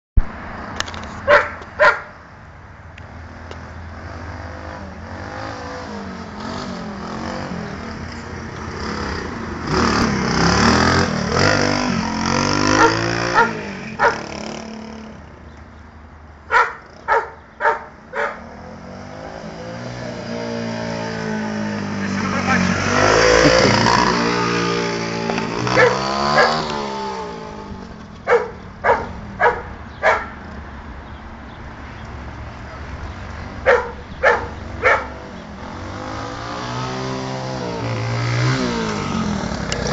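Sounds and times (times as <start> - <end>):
minibike engine revving: 3.6 - 15.6, 16.5 - 30.5, 32.6 - 39.9.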